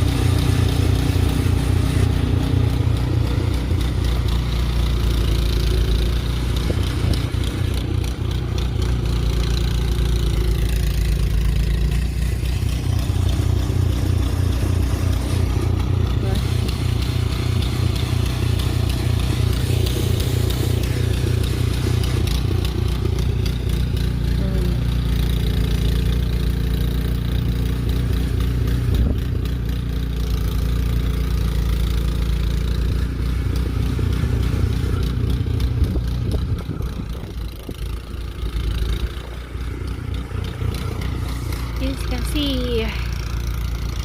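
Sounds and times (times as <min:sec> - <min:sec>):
engine running with low rumble: 0:00.0 - 0:44.0.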